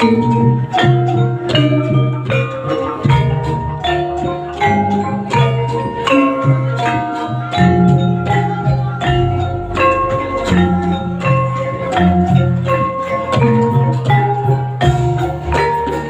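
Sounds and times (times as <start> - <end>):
gamelan music: 0.0 - 16.0.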